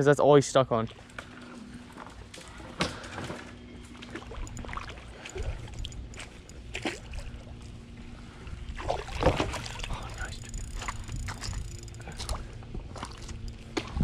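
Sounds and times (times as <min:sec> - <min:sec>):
feet splashing in shallow water: 0:00.9 - 0:14.0.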